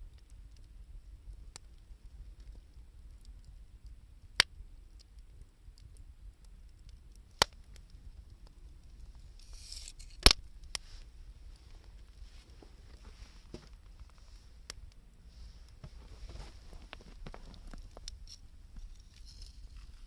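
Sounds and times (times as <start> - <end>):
campfire crackling: 0.0 - 20.0
fire popping: 0.0 - 20.0.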